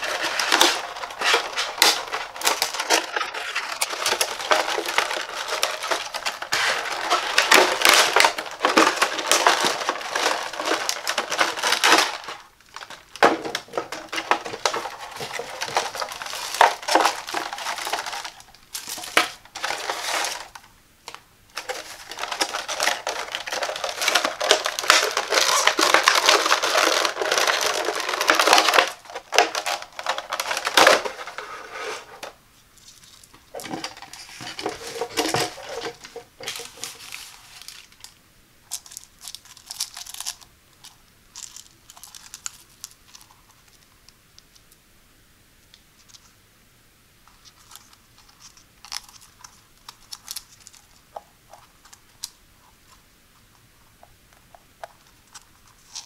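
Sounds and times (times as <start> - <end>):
plastic packaging crackling: 0.0 - 44.8, 47.3 - 56.0.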